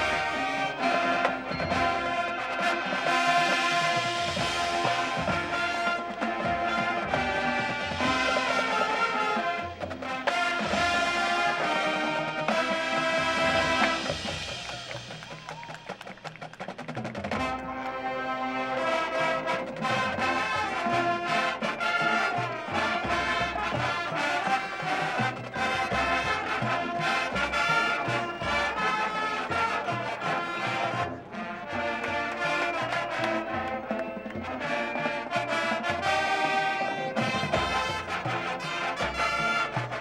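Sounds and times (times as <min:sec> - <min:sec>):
marching band brass playing: 0:00.0 - 0:40.0.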